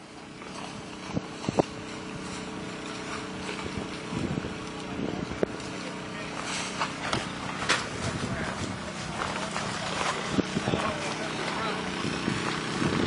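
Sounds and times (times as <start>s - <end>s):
engine idling: 0.0s - 13.0s
faint voices: 0.0s - 13.0s.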